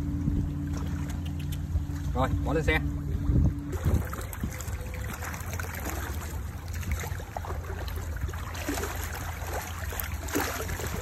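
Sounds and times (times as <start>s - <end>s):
shallow water sloshing and splashing: 0.0s - 11.0s
steady low rumble: 0.0s - 11.0s.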